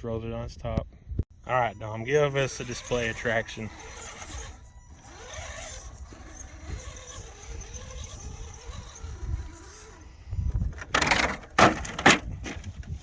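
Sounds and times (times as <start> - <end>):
electric motor whining: 1.7 - 13.0.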